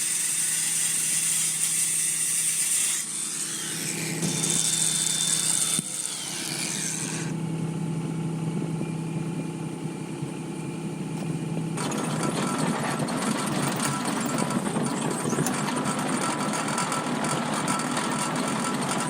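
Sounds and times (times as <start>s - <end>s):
low motor hum: 3.7s - 19.0s.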